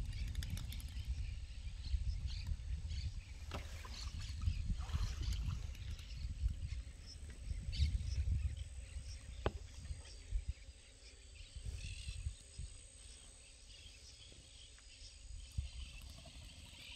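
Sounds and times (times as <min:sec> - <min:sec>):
wind rumble on microphone: 0:00.0 - 0:14.4, 0:15.2 - 0:16.9.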